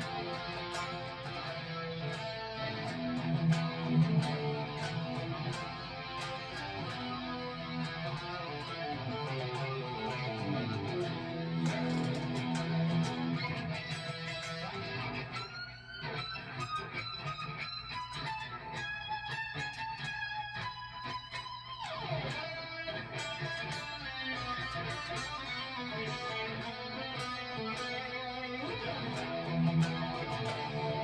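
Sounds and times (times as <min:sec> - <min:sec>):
electric guitar playing: 0:00.0 - 0:31.0.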